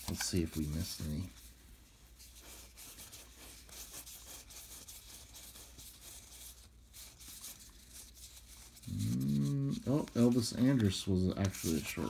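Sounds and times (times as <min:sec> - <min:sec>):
trading cards rustling: 0:00.0 - 0:01.4, 0:02.2 - 0:12.0.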